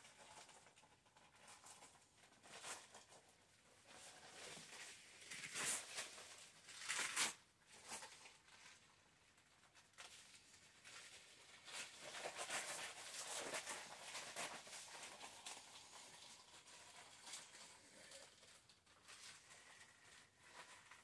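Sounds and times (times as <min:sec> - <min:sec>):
plastic dress rustling and crinkling: 0:00.0 - 0:21.0.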